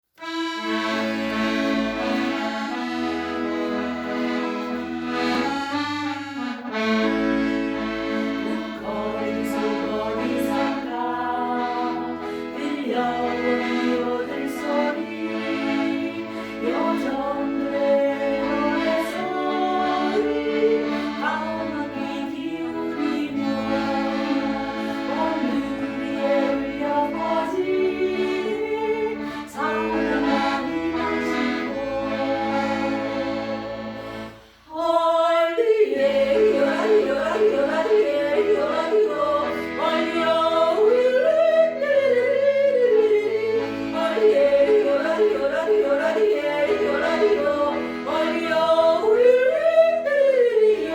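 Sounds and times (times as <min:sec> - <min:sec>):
accordion music: 0:00.0 - 0:50.9.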